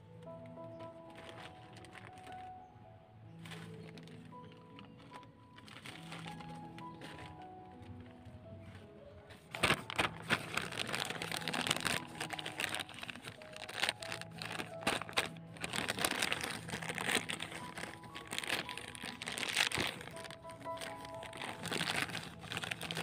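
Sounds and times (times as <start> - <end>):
plastic pots crinkling: 0.0 - 23.0.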